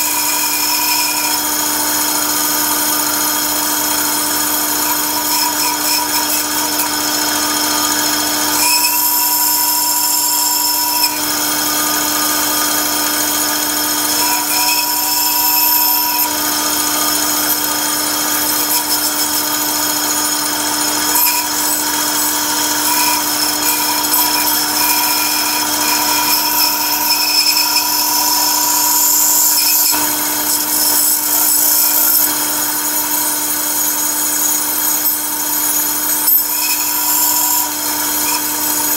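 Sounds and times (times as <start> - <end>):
bandsaw cutting wood: 0.0 - 38.9.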